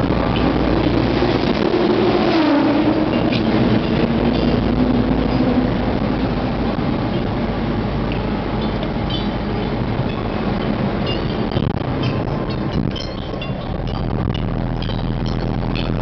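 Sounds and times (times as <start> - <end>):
car engine and tyre noise: 0.0 - 16.0
low hum: 0.0 - 16.0.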